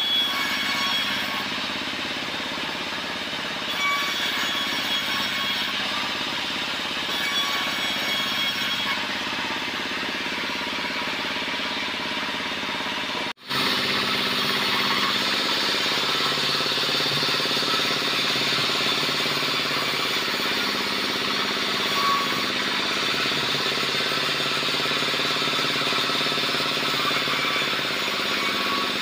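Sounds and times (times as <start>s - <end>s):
band saw cutting wood: 0.0s - 29.0s
thin saw whine: 0.0s - 29.0s.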